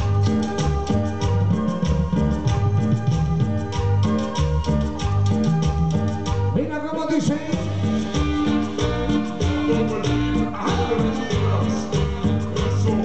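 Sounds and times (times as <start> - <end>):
latin dance music over sound system: 0.0 - 13.0.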